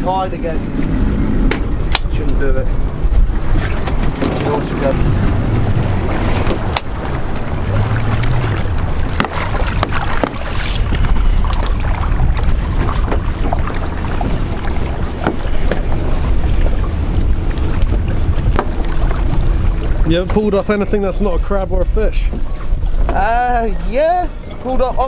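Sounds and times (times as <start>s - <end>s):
boat engine running: 0.0s - 25.0s
water splashing: 0.0s - 25.0s
wind noise on microphone: 0.0s - 25.0s.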